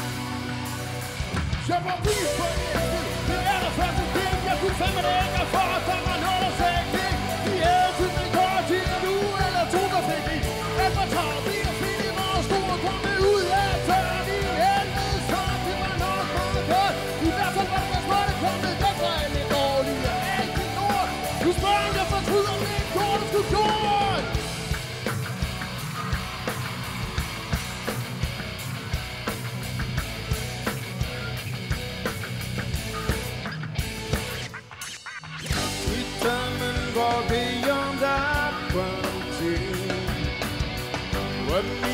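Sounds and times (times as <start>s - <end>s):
live rock band: 0.0s - 41.9s.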